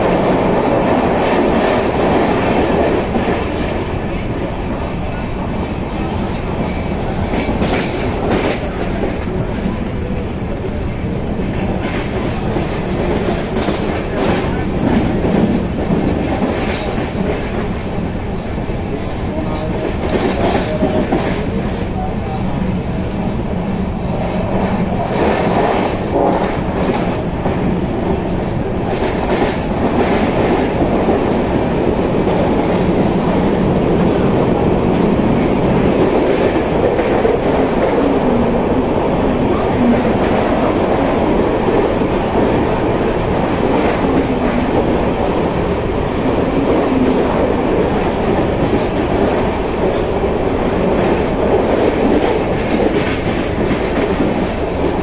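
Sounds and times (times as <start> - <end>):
clickety-clack over rail joints: 0.0 - 55.0
train wheels rumbling: 0.0 - 55.0.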